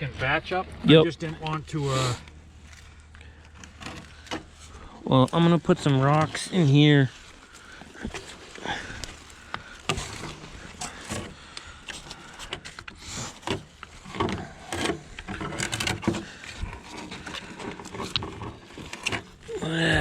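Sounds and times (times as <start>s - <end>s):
rocks knocking and scraping: 0.2s - 19.5s.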